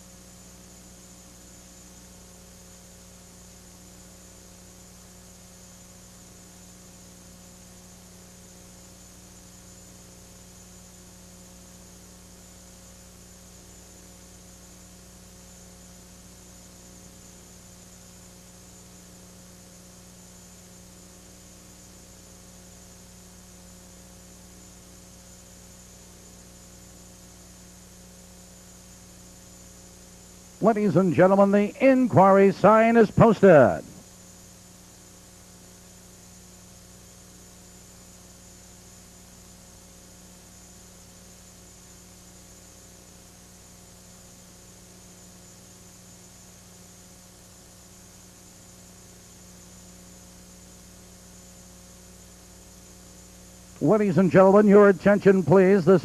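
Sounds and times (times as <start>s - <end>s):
background hiss: 0.0s - 56.0s
electrical mains hum: 0.0s - 56.0s.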